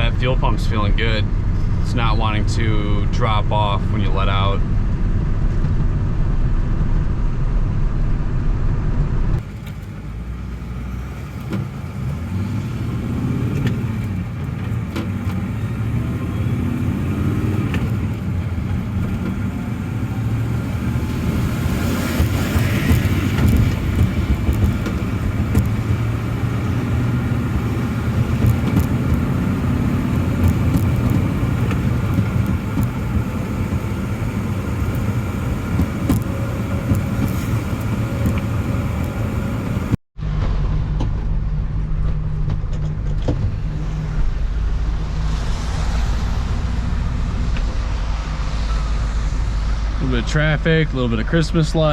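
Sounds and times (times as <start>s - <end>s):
vehicle engine and road rumble: 0.0s - 51.9s.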